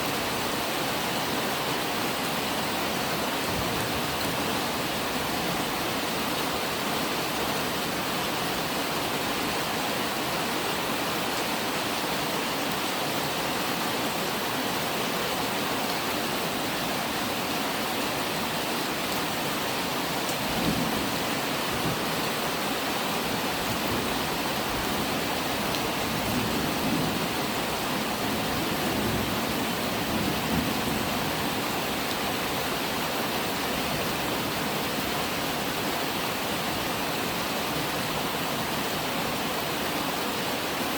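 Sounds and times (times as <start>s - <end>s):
dense rainfall: 0.0s - 40.9s.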